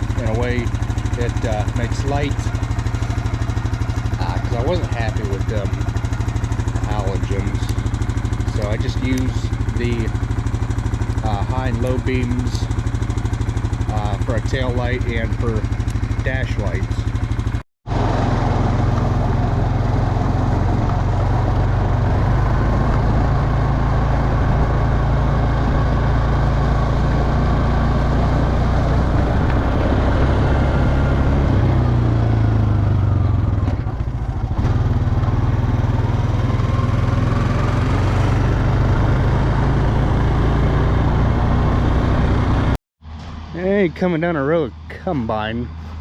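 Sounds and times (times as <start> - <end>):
atv engine running: 0.0 - 46.0.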